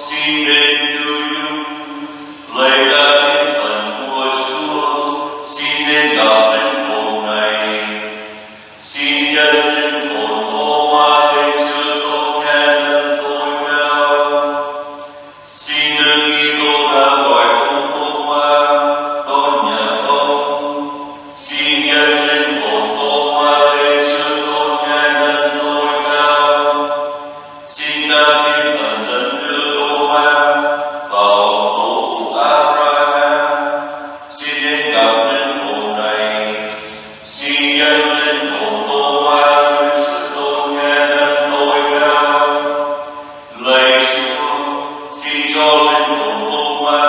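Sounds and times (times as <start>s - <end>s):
slow liturgical singing: 0.0s - 47.0s
unaccompanied sung chant: 0.0s - 47.0s.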